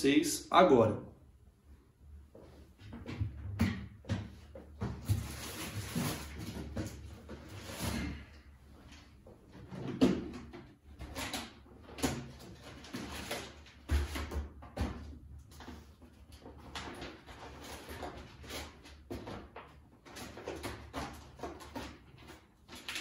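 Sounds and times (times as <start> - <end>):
objects knocking and scraping: 2.8 - 23.0.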